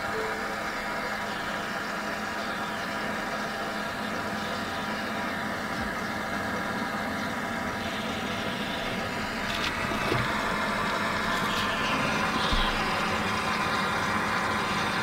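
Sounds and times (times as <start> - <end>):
electric fuel pump humming: 0.0 - 15.0.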